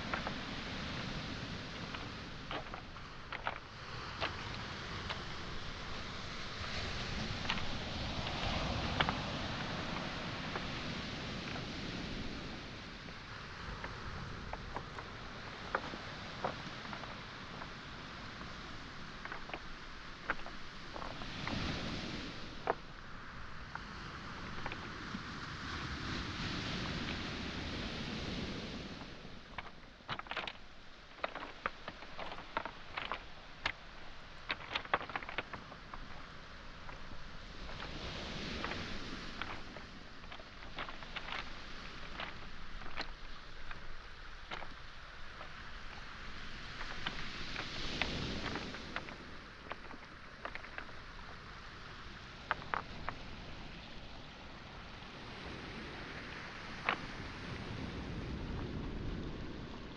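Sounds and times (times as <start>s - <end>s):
footsteps on beach pebbles: 0.0s - 54.6s, 56.4s - 57.6s
waves washing on shingle: 0.0s - 59.9s.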